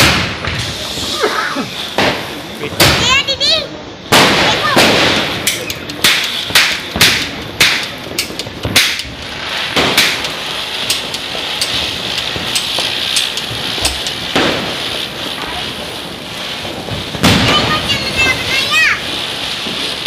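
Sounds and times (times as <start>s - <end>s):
firecrackers banging: 0.0s - 20.0s
ground spinners fizzing hiss: 0.0s - 20.0s.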